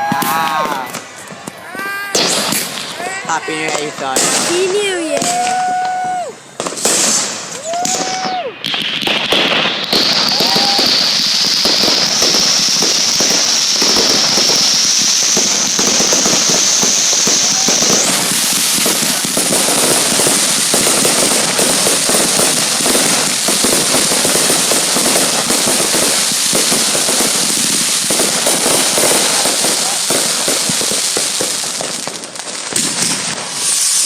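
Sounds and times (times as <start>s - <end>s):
fireworks crackling and popping: 0.0s - 34.0s.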